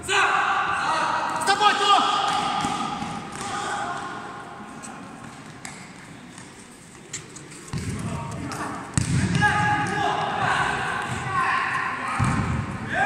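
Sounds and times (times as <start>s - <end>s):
voices in echoing hall: 0.0s - 13.0s.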